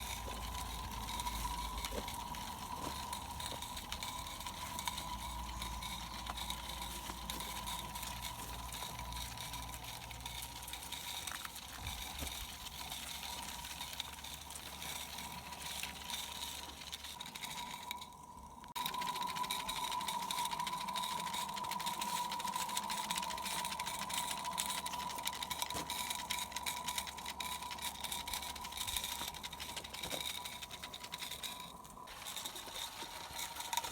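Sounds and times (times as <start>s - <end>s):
steam locomotive hissing and rattling: 0.0s - 16.1s, 18.8s - 33.9s.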